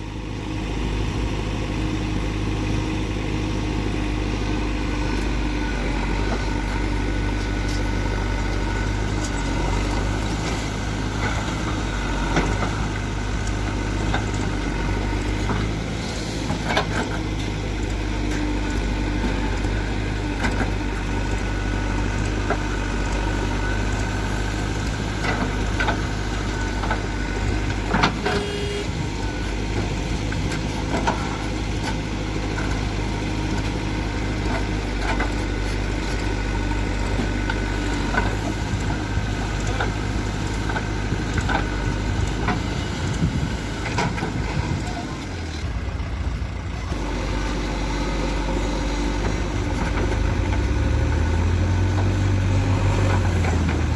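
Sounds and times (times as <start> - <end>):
backhoe diesel engine running: 0.0 - 53.9.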